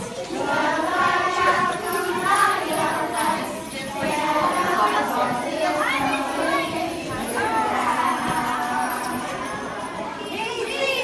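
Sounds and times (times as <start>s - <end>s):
children's voices: 0.0s - 11.0s
jingle bells jingling: 0.0s - 11.0s.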